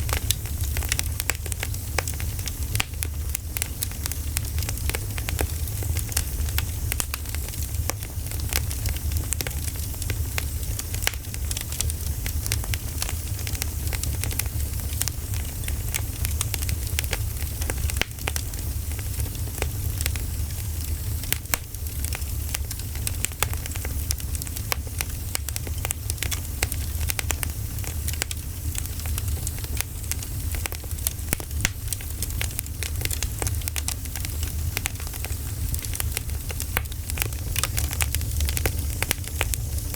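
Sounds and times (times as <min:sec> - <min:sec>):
bonfire crackling and popping: 0:00.0 - 0:39.9
low rumble of fire: 0:00.0 - 0:39.9.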